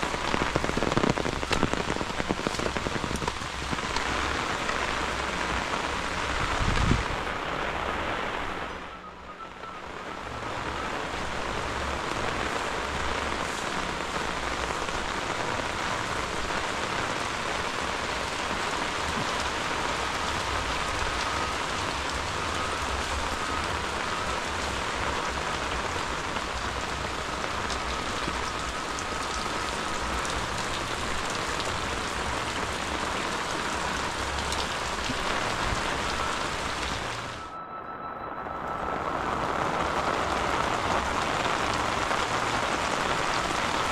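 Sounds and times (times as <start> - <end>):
heavy rain on tile roofs: 0.0 - 43.9.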